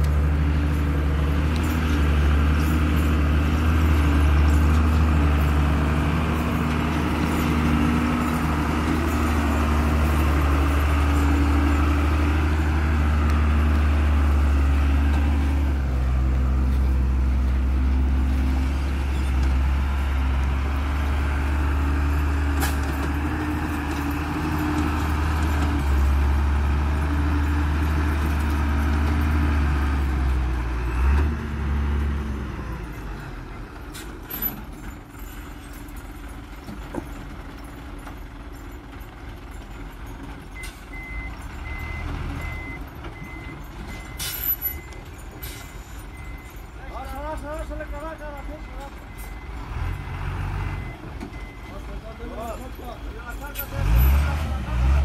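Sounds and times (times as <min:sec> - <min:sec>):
truck diesel engine under load: 0:00.0 - 0:55.0.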